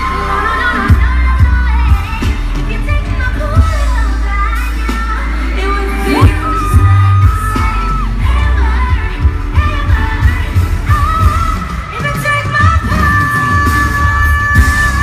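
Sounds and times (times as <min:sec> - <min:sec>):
female group singing: 0:00.0 - 0:12.2
pop backing track with bass: 0:00.0 - 0:15.0.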